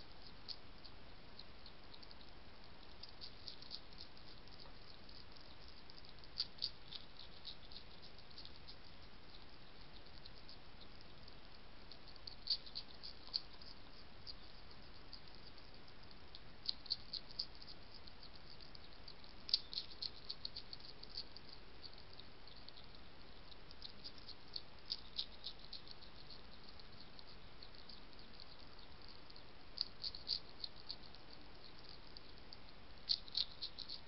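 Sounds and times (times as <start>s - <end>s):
hedgehog chewing with crunching clicks: 0.0s - 34.0s.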